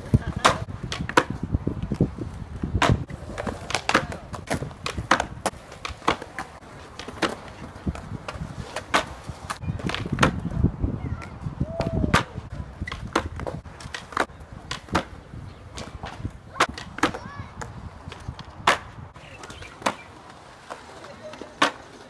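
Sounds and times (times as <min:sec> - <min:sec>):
skateboard clacks on concrete: 0:00.0 - 0:10.6, 0:12.1 - 0:22.0
skateboard wheels rolling: 0:00.0 - 0:22.0.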